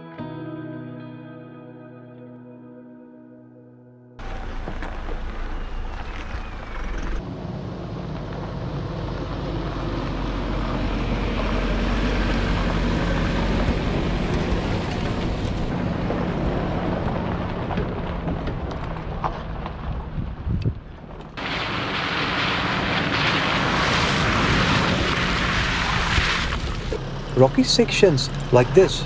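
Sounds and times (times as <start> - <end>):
vehicle engine and tyre noise: 4.2 - 29.0.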